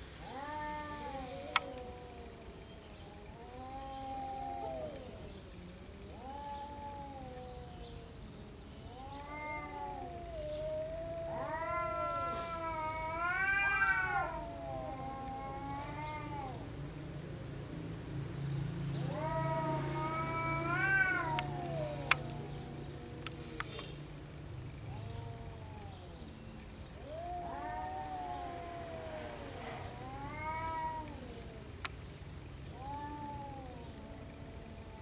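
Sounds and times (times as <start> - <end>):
cats yowling: 0.2 - 16.8, 18.8 - 23.9, 24.8 - 26.3, 26.9 - 31.9, 32.7 - 35.0.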